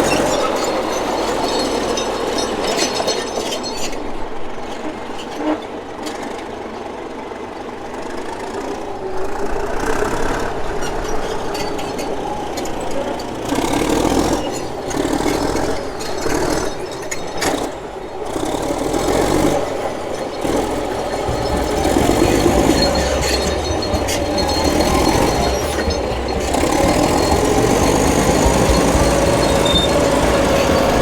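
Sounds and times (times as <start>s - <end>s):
diesel engine rattling: 0.0s - 4.2s, 7.4s - 31.0s.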